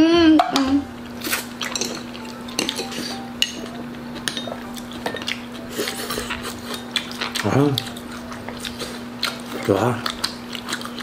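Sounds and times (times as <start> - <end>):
steady low hum: 0.0 - 11.0
utensils clinking against dishes: 0.1 - 11.0.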